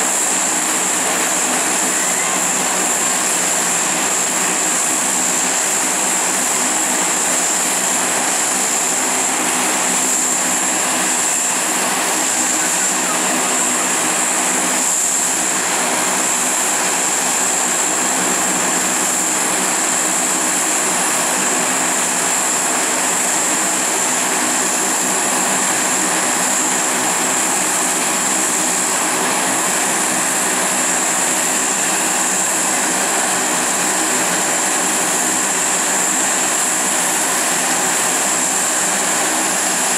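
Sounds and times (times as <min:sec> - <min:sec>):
droning propellers: 0:00.0 - 0:39.9
high-pitched turbine whine: 0:00.0 - 0:39.9.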